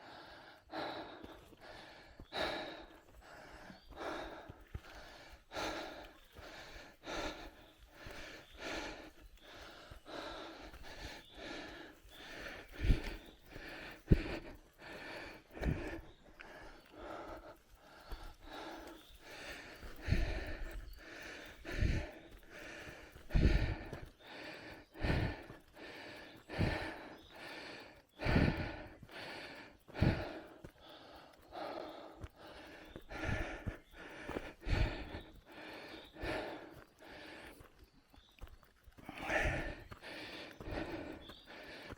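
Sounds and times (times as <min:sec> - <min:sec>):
person breathing heavily: 0:00.0 - 0:41.9.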